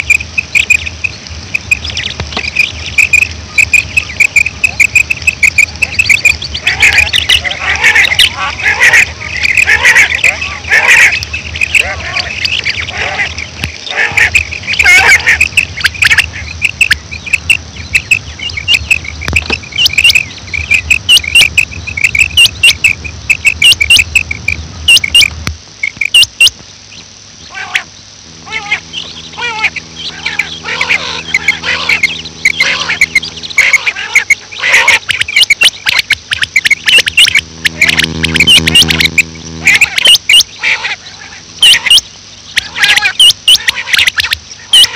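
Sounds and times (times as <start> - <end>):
quail calling: 0.0 - 44.9.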